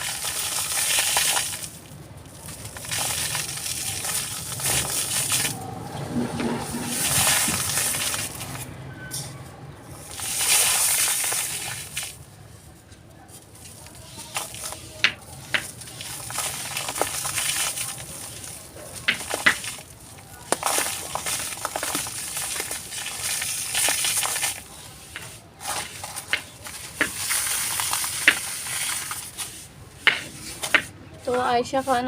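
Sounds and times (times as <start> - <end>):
brittle material crumbled by hand: 0.0 - 30.9.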